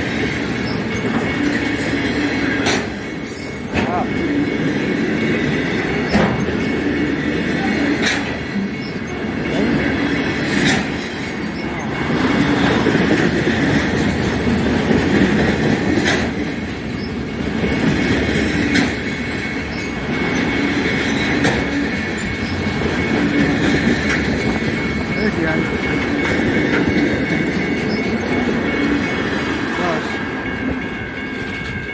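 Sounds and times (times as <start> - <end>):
wheels clicking over rail joints: 0.0 - 4.2, 4.8 - 31.9
freight train cars rolling: 0.0 - 31.9.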